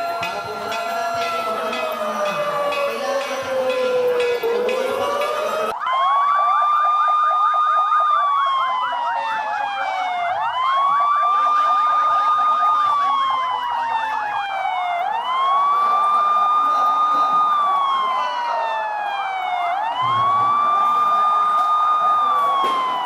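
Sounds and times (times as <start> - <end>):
fast sweeping siren tone: 0.0 - 23.0
siren wailing: 0.0 - 23.0.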